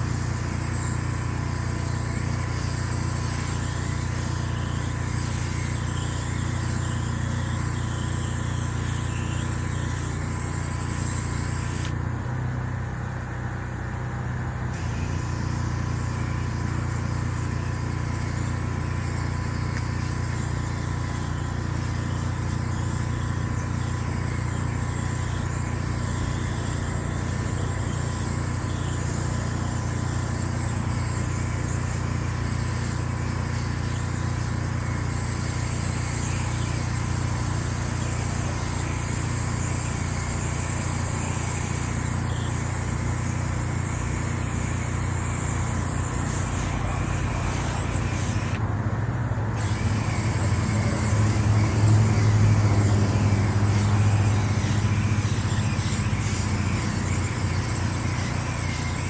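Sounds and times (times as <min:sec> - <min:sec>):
pressure washer hiss: 0:00.0 - 0:12.5, 0:14.7 - 0:48.7, 0:49.5 - 0:59.0
small petrol engine droning: 0:00.0 - 0:59.0.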